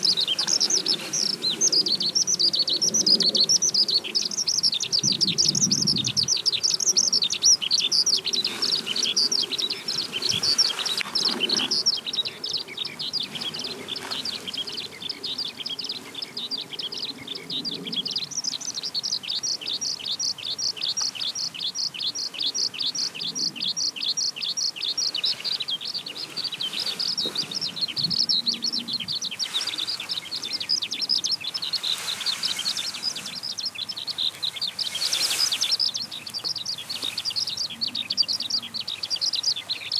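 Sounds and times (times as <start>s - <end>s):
skylark singing: 0.0s - 39.9s.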